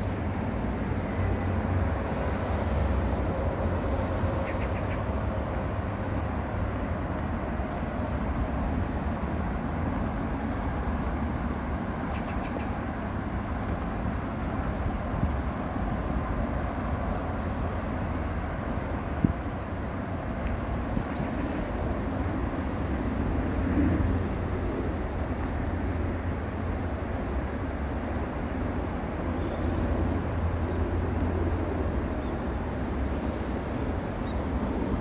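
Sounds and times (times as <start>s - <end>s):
distant road traffic rumble: 0.0s - 35.0s.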